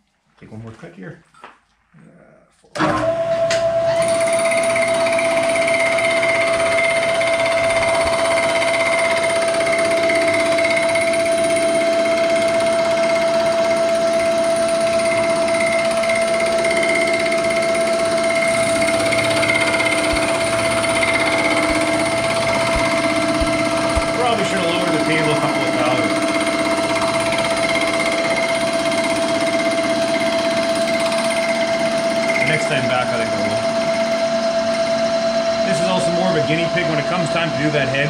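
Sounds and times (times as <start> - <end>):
milling machine whine: 2.8 - 38.0.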